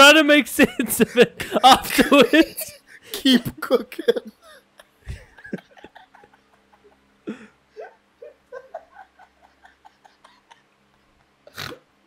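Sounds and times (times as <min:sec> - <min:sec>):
people giggling: 0:00.6 - 0:11.5.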